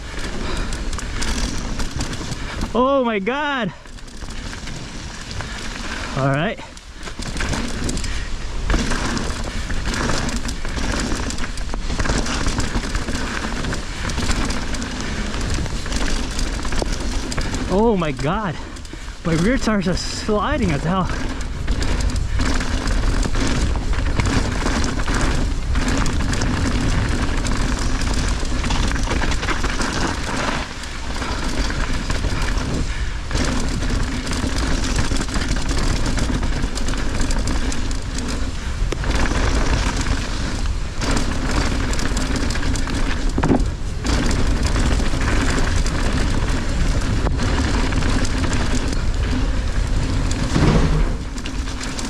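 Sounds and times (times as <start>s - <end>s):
bike rattling over bumps: 0.0s - 52.0s
tyres rolling over mud and rock: 0.0s - 52.0s
wind rumble on microphone: 3.6s - 52.0s.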